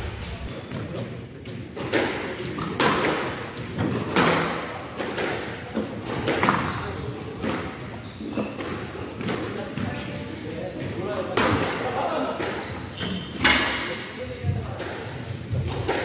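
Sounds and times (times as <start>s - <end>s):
squash ball hits: 0.0s - 10.0s, 10.8s - 12.7s, 13.3s - 16.0s.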